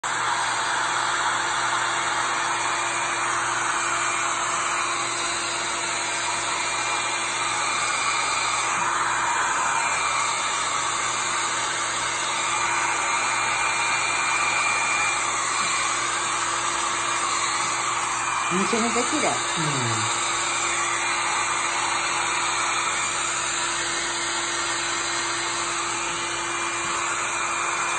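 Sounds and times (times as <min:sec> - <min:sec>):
hair dryer blowing: 0:00.0 - 0:27.9.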